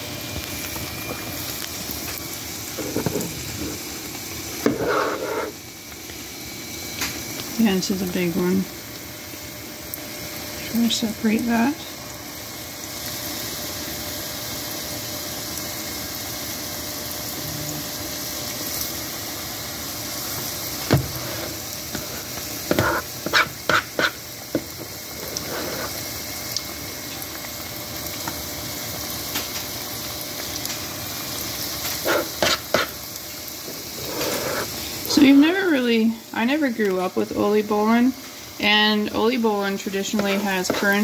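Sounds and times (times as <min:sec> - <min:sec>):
dough deep-frying in oil: 0:00.0 - 0:41.0.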